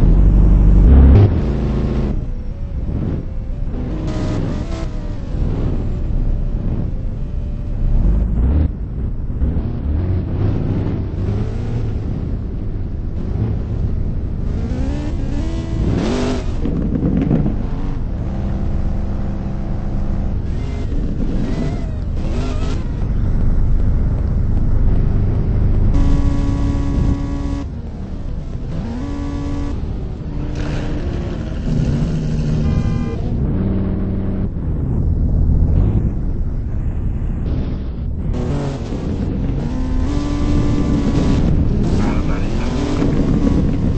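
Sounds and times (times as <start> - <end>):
car engines revving and driving past: 0.0 - 43.9
continuous low rumble: 0.0 - 43.9.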